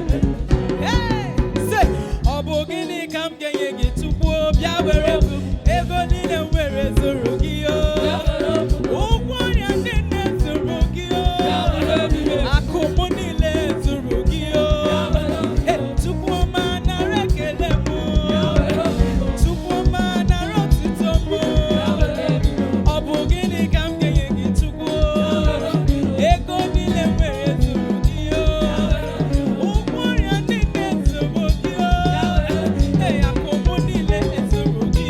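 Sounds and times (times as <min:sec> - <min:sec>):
drum kit dance beat: 0:00.0 - 0:02.9, 0:03.6 - 0:35.0
live gospel band playing: 0:00.0 - 0:35.0
singing: 0:00.0 - 0:35.0.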